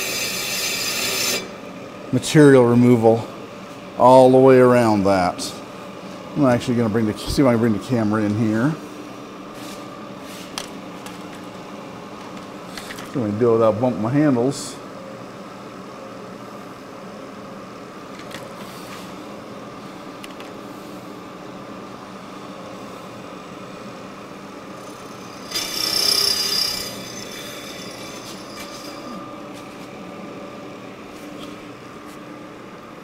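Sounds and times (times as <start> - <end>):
milling machine whine: 0.0 - 33.0.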